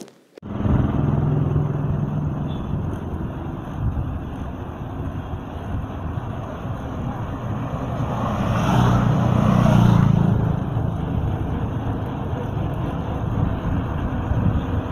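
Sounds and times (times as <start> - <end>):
bicycle tyre rumble on road: 0.0 - 14.9
wind: 0.0 - 14.9.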